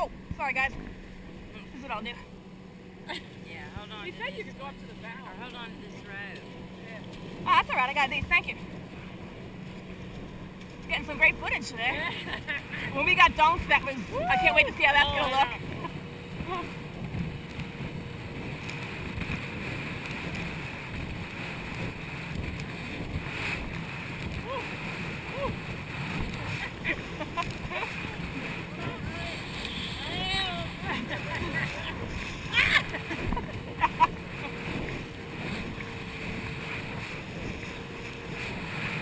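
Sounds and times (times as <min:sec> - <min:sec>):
water rushing under boat: 0:00.0 - 0:39.0
wind buffeting microphone: 0:00.0 - 0:39.0.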